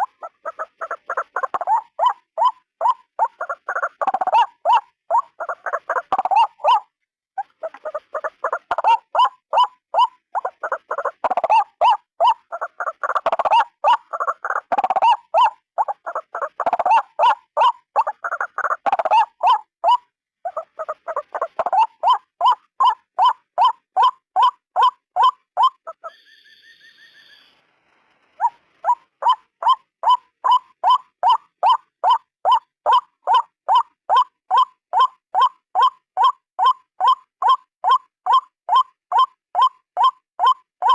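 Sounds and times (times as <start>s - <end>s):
waterhen calling: 0.0s - 27.6s, 28.4s - 40.9s.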